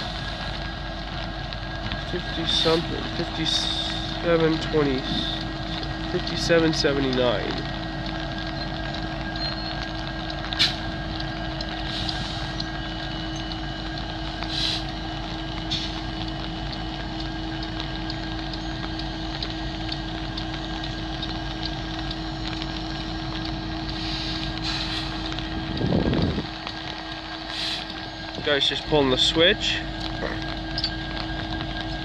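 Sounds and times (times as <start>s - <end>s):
constant hum: 0.0s - 32.0s
locomotive engine rumble: 0.0s - 32.0s.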